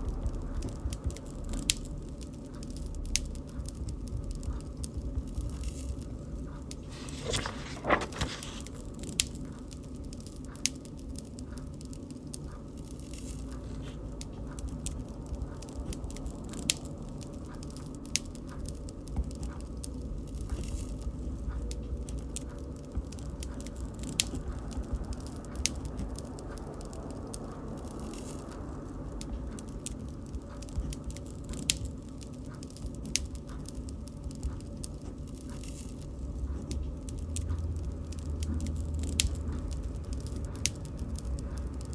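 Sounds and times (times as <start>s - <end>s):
low rumble of flames: 0.0s - 41.9s
fire popping and snapping: 0.1s - 41.9s.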